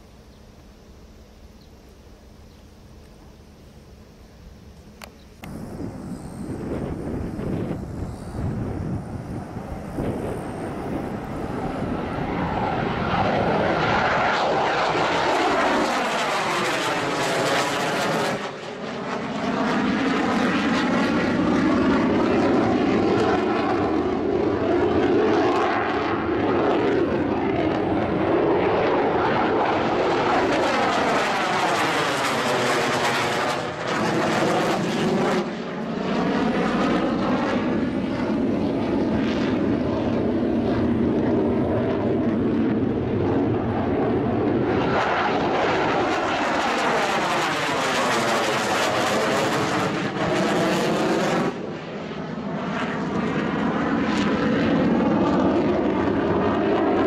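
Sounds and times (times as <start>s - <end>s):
jet flying low overhead: 0.0s - 57.0s.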